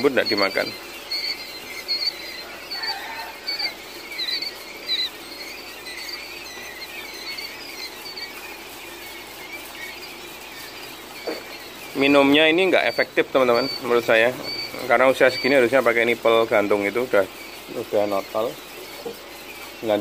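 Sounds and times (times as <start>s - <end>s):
quail chicks peeping: 0.0s - 20.0s.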